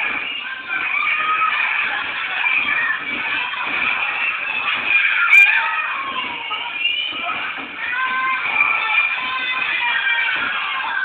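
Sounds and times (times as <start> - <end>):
crowd voices: 0.0 - 11.0.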